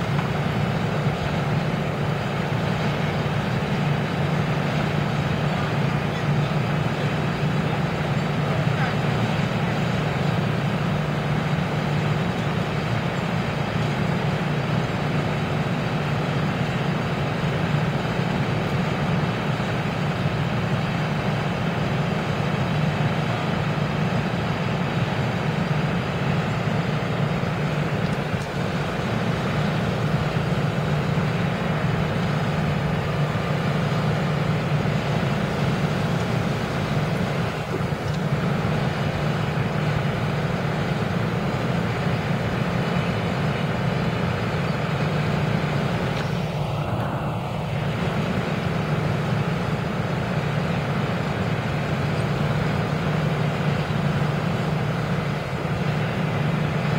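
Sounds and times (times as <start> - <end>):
vehicle engine running steadily: 0.0 - 56.9.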